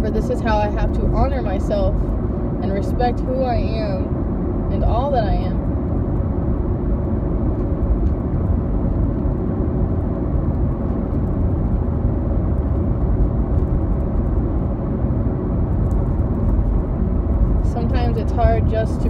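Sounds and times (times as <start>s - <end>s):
vehicle rumble from inside cabin: 0.0s - 19.0s.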